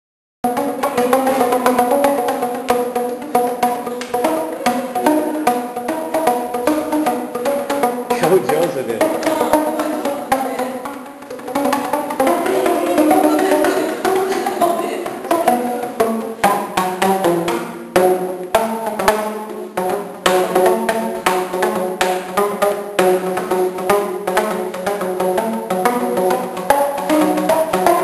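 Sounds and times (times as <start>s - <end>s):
tube drums playing a melody: 0.4s - 28.0s.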